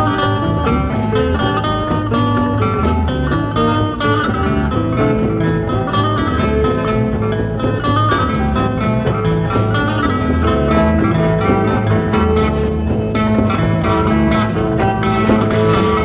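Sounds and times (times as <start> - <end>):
bass guitar: 0.0 - 16.0
drum and cymbal beat: 0.0 - 16.0
electric guitars: 0.0 - 16.0.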